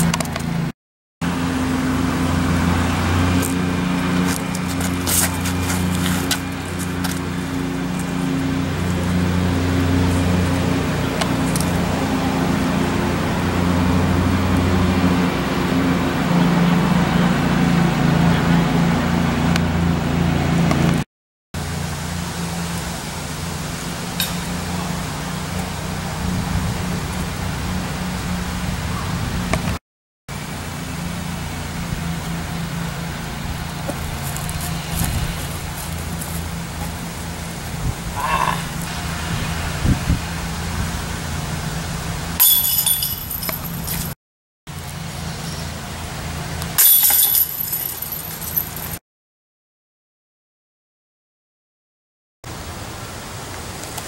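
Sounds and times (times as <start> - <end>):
low engine hum: 0.0 - 21.0, 21.6 - 49.0.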